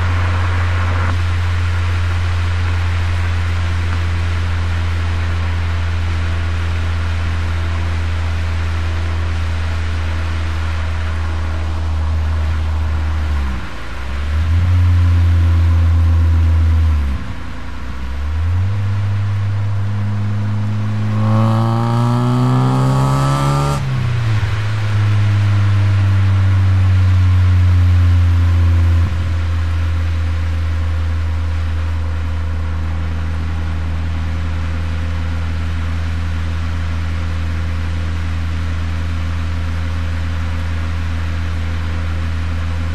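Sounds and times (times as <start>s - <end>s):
car exhaust revving: 0.0s - 42.9s.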